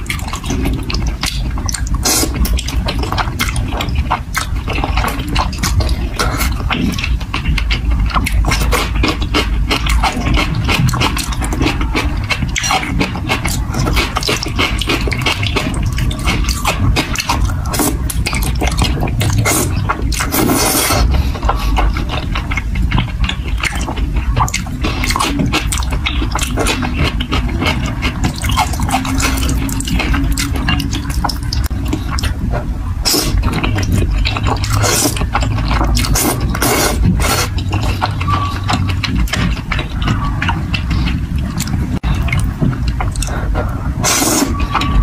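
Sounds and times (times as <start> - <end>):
slurping and chewing noodles: 0.0 - 45.0.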